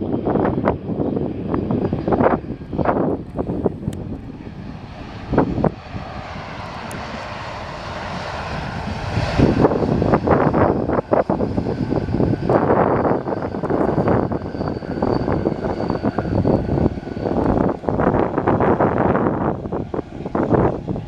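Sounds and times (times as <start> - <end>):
jet plane landing: 0.0 - 21.0
wind buffeting microphone: 0.0 - 21.0.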